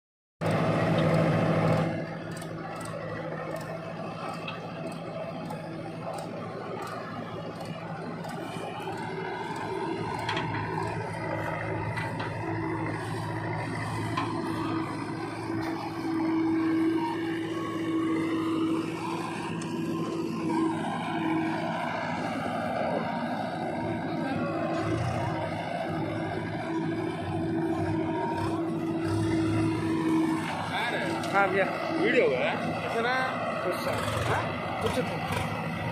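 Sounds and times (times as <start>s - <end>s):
diesel engines running: 0.4s - 35.9s.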